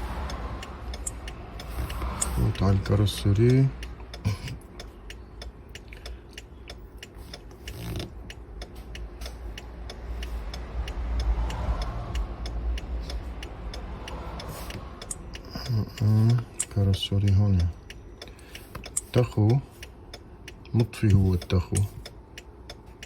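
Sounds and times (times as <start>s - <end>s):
light clicks and ticks: 0.0s - 23.0s.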